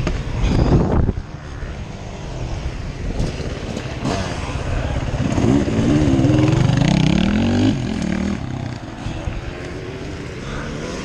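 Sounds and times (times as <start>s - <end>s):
motorcycle engine revving: 1.5s - 11.0s.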